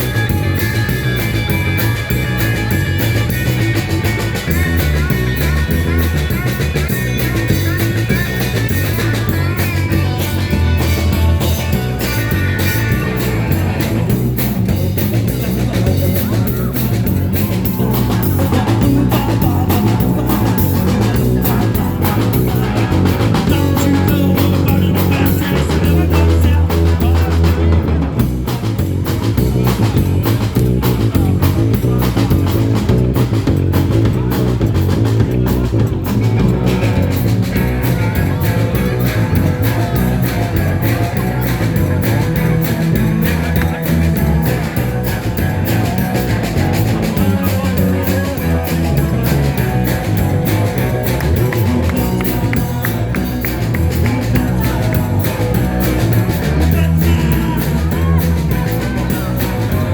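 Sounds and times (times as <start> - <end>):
fast rock song: 0.0 - 59.9.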